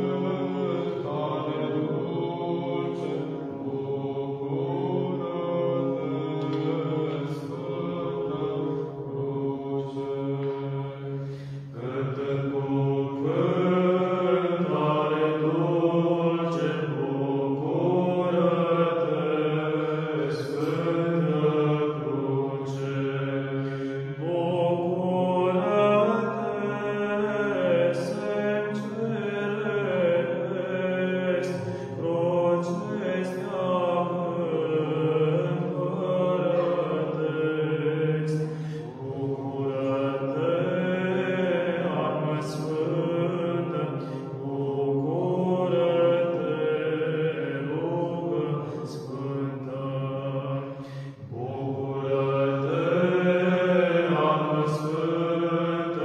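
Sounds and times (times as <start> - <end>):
low sung drone: 0.0 - 56.0
male choir chanting a cappella: 0.0 - 56.0.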